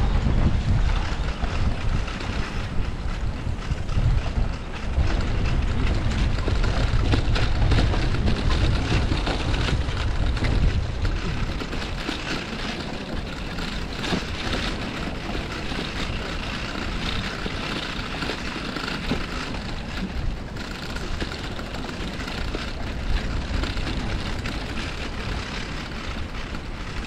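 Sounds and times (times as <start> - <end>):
bicycle tyres rattling over bricks: 0.0 - 27.0
wind rumble on microphone: 0.0 - 27.0.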